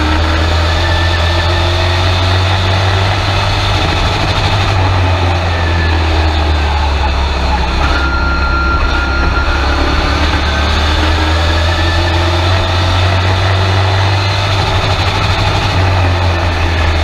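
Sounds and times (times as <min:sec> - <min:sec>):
thin high whine: 0:00.0 - 0:17.0
truck engine running steadily: 0:00.0 - 0:17.0.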